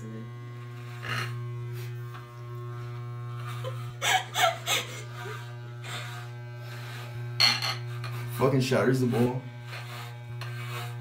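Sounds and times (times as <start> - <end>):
clippers rasping through hair: 0.0 - 11.0
electric hair clippers humming: 0.0 - 11.0.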